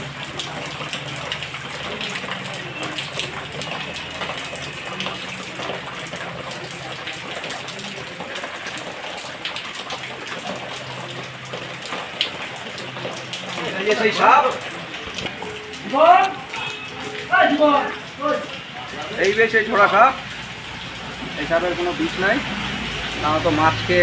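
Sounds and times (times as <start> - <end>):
heavy rain pouring: 0.0 - 24.0
water drops splashing: 0.0 - 24.0.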